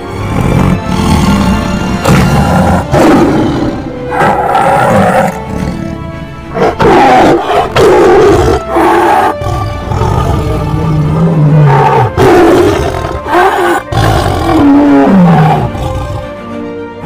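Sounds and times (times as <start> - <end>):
tiger growling and roaring: 0.0 - 16.5
background music: 0.0 - 17.0.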